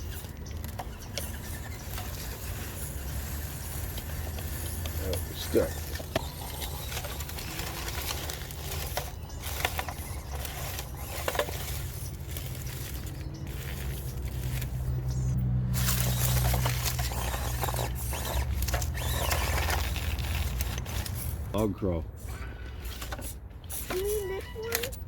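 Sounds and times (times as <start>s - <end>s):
toy car motor and gear hum: 0.0s - 25.0s
tyres scraping and clicking: 0.0s - 25.0s.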